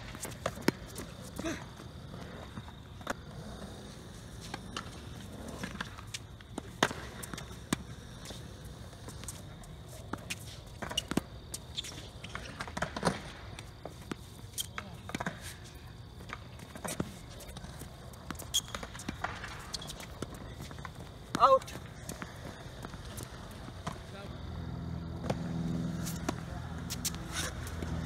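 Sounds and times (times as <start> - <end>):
players' footsteps: 0.0 - 28.0.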